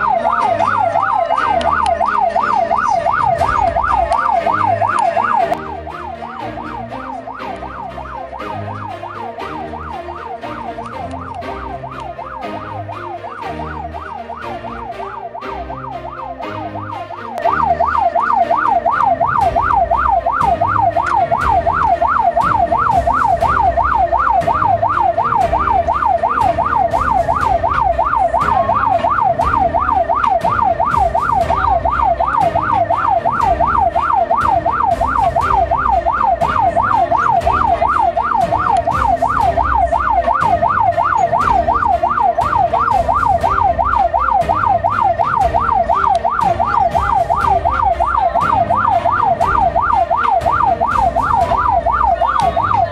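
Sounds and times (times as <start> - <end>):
ambulance siren yelping: 0.0 - 52.9.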